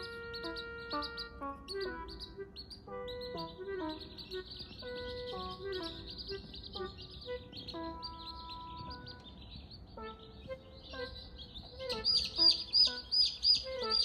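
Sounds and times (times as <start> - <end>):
background music sustained notes: 0.0 - 14.0
chicks peeping: 0.0 - 14.0.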